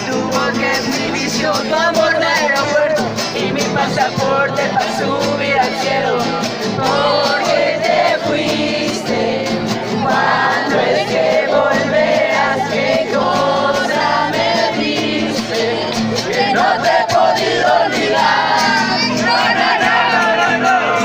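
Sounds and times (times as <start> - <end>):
group of people singing: 0.0 - 21.0.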